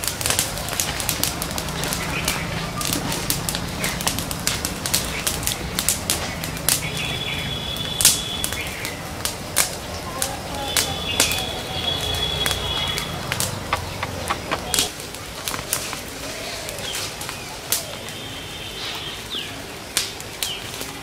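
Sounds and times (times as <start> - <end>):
campfire crackling and popping: 0.0 - 21.0
flames rushing: 0.0 - 21.0.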